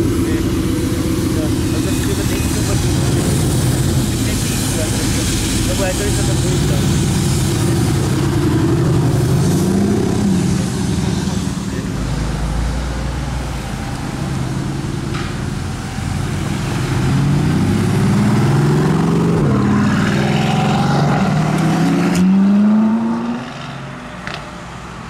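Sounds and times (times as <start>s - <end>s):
car engine accelerating hard: 0.0s - 24.5s.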